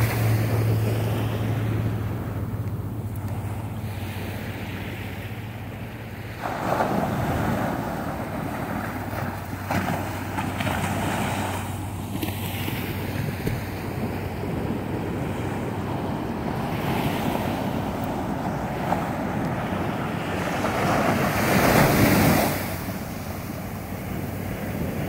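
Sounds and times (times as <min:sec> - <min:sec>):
small waves breaking on sand: 0:00.0 - 0:25.0
wind buffeting microphone: 0:00.0 - 0:25.0.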